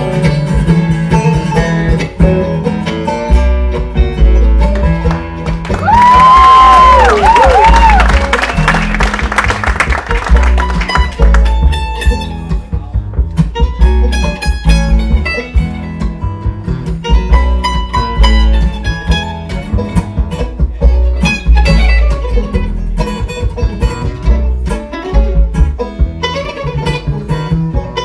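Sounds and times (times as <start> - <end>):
bluegrass band playing: 0.0 - 28.0
picked mandolin notes: 0.0 - 28.0.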